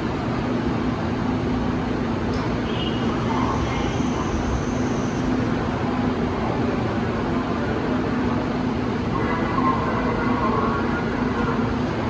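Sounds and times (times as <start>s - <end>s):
idling train rumble and hum: 0.0s - 12.0s.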